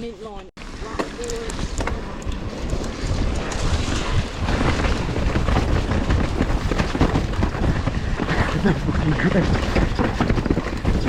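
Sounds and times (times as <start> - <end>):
wind buffeting microphone: 0.6 - 11.0
bike knocks and rattles: 0.9 - 3.8, 4.4 - 11.0.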